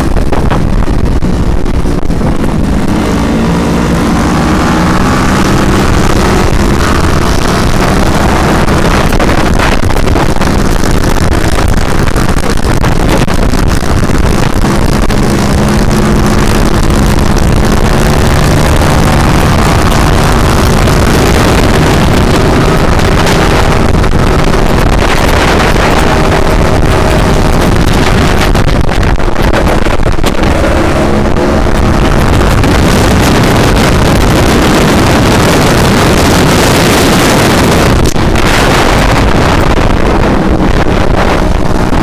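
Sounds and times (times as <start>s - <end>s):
motorcycle engine revving: 0.0s - 42.0s
wind rush on microphone: 0.0s - 42.0s.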